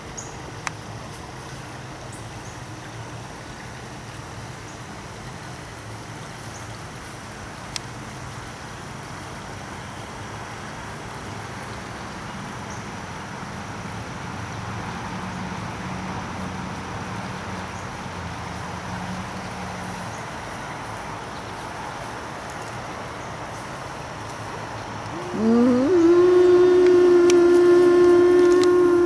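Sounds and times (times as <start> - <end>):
distant vehicle engine hum: 0.0 - 29.0
outdoor background noise: 0.0 - 29.0.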